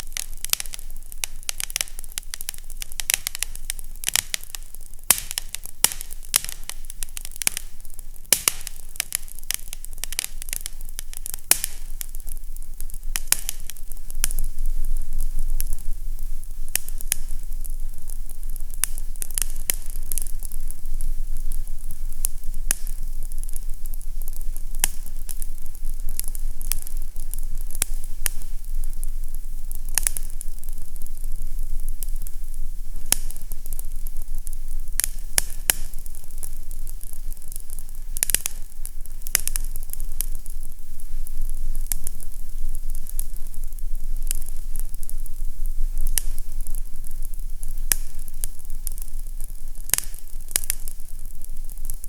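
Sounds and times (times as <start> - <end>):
fireplace fire crackling: 0.0 - 52.0.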